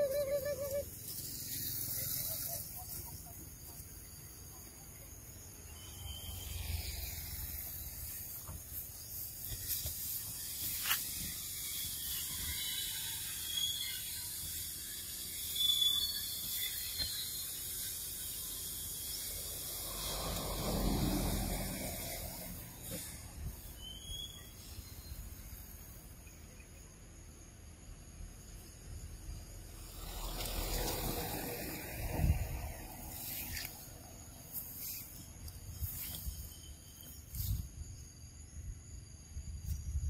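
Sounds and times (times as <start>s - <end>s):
faint chirps: 0.0s - 40.0s
high-pitched insect buzz: 0.0s - 40.0s.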